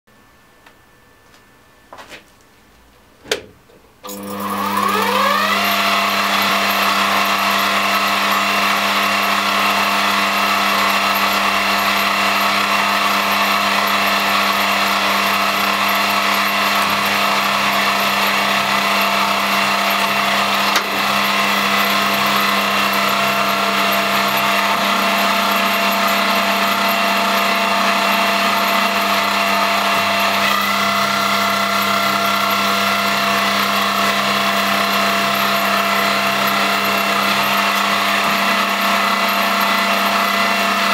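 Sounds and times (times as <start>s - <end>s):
milling machine motor whine: 4.0s - 40.9s.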